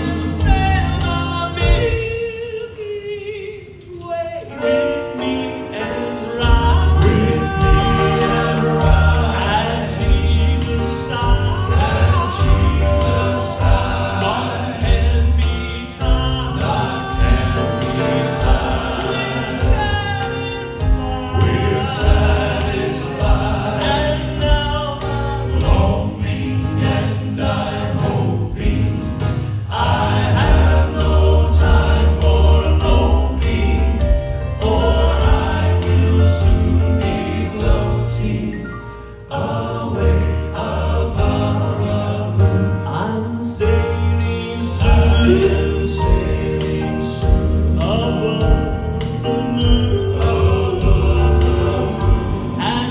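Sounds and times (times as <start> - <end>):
male vocal quartet singing in harmony: 0.0 - 52.9
amplified accompaniment with heavy bass: 6.2 - 52.9.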